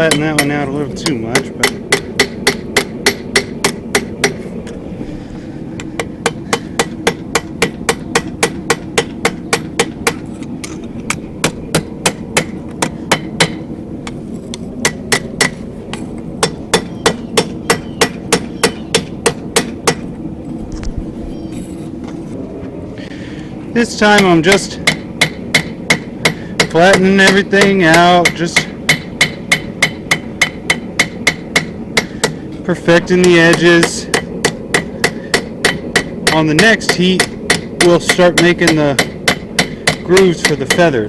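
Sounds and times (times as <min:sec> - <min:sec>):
hammer striking steel on anvil: 0:00.0 - 0:04.4, 0:05.9 - 0:13.6, 0:14.8 - 0:20.0, 0:24.1 - 0:32.4, 0:33.0 - 0:41.0.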